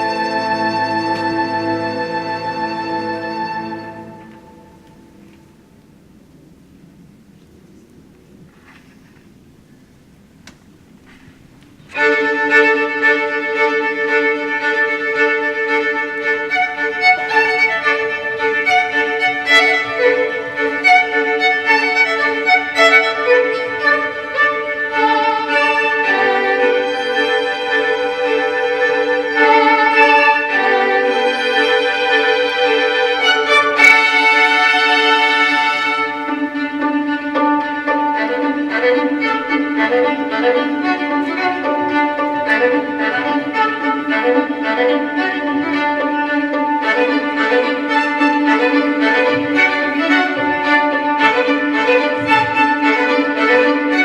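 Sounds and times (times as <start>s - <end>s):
violin melody: 0.0s - 5.4s, 11.9s - 54.0s.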